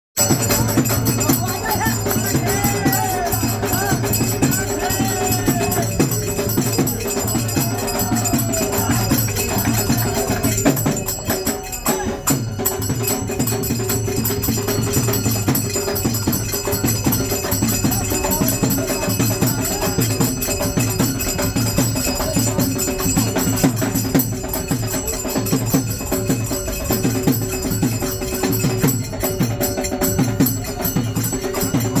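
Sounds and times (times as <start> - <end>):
jingling hand percussion: 0.2 - 32.0.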